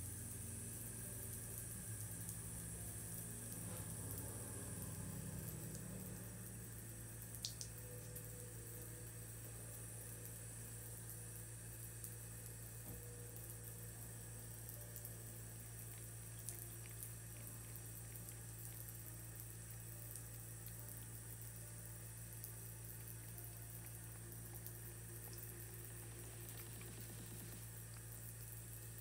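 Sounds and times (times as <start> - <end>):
low hum: 0.0 - 28.8.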